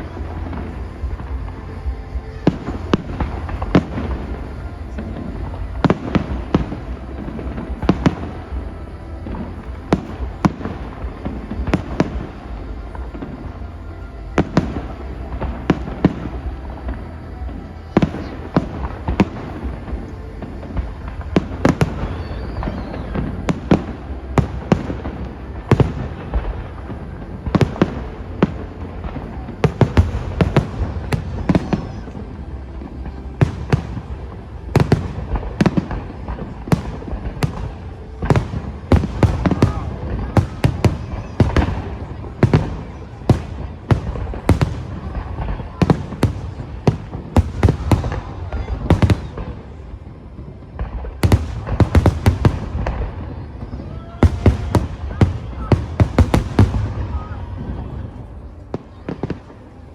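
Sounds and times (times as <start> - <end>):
fireworks bursting with bangs: 0.0 - 59.9.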